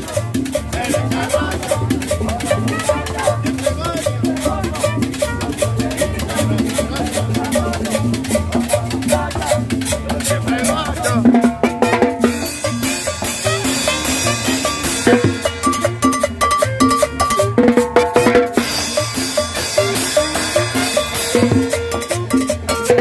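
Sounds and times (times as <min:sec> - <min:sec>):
congas and timbales beat: 0:00.0 - 0:23.0
trumpet lines: 0:00.9 - 0:06.9, 0:10.3 - 0:23.0.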